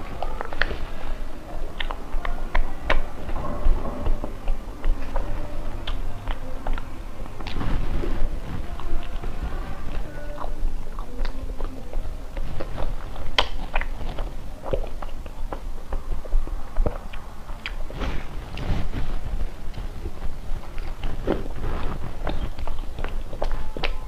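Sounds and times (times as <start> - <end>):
chewing and lip smacking: 0.0 - 24.0.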